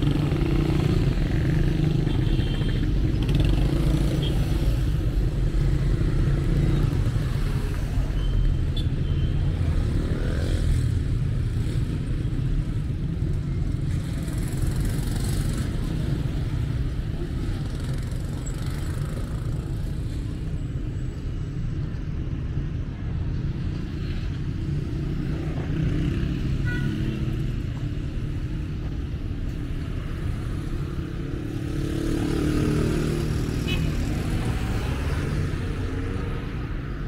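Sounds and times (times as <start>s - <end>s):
cars going by: 0.0s - 37.0s.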